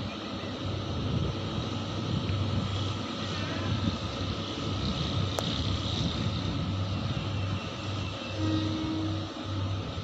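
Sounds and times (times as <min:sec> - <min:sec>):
diesel locomotive idling: 0:00.0 - 0:10.0.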